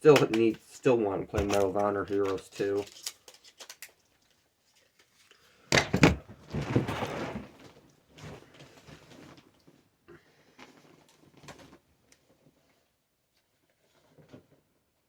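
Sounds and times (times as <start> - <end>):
objects rustling and scraping on surface: 1.3 - 14.7.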